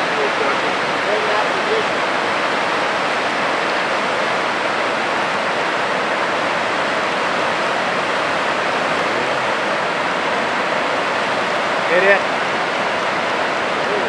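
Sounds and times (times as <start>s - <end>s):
whitewater rapid rushing: 0.0s - 14.0s.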